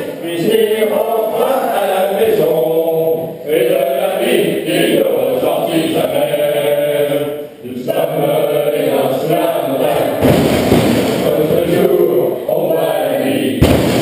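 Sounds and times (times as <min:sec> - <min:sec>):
many voices chanting in unison: 0:00.0 - 0:14.0.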